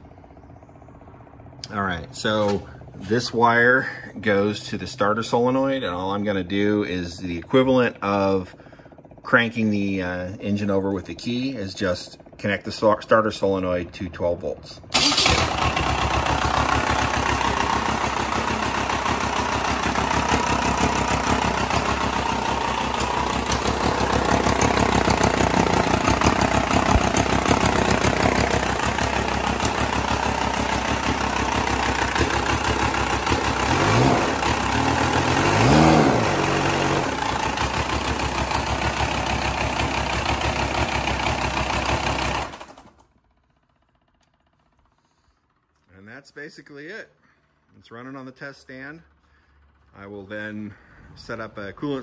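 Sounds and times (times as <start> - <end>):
diesel engine idling with clatter: 0.0 - 52.0.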